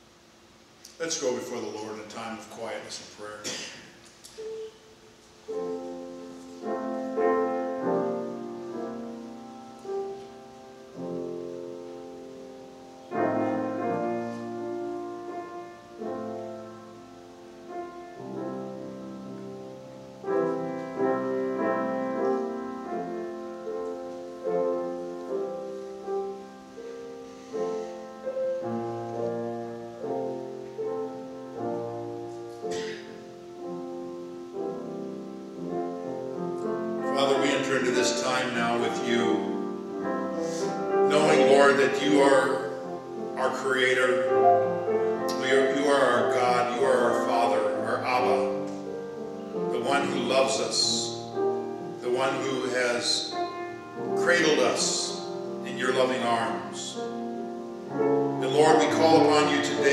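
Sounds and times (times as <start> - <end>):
slow soft piano chords: 0.0 - 59.9.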